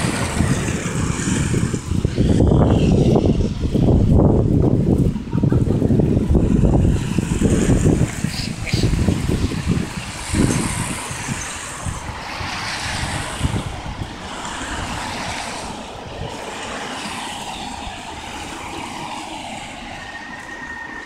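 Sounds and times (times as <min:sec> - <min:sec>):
road traffic going by: 0:00.0 - 0:21.0.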